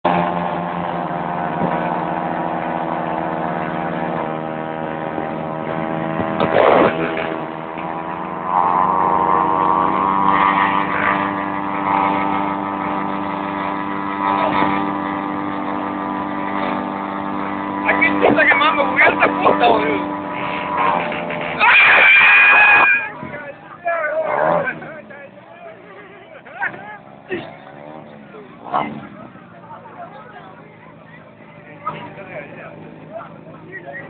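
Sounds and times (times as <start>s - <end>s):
motorcycle engine revving high: 0.0s - 34.0s.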